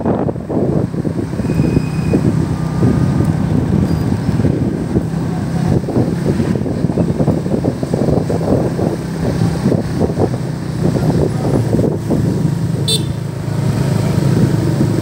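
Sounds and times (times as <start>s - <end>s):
traffic engines droning: 0.0s - 15.0s
wind buffeting microphone: 0.0s - 15.0s.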